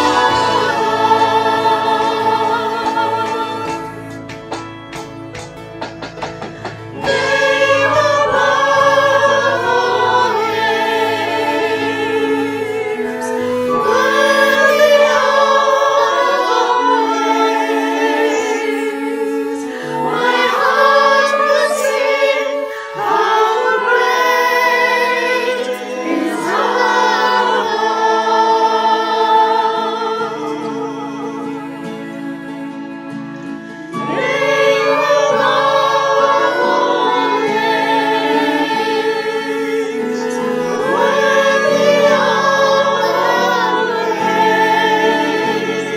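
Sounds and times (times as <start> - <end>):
group singing with vibrato: 0.0 - 45.9
sustained instrumental accompaniment: 0.0 - 45.9.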